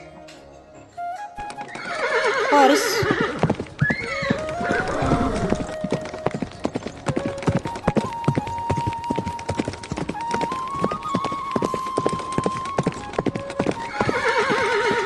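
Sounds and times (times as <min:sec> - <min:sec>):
horse hooves clip-clopping: 0:01.4 - 0:15.0.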